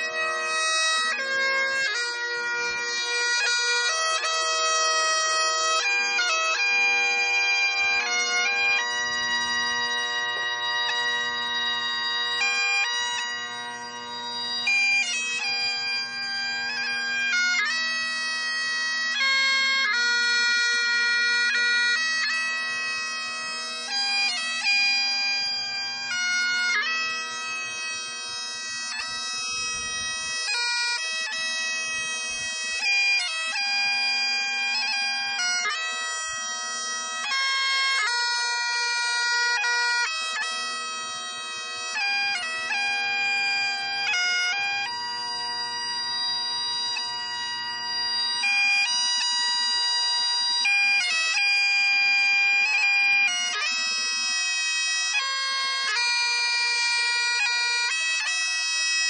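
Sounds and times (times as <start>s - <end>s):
bagpipes playing slow tune: 0.0s - 59.0s.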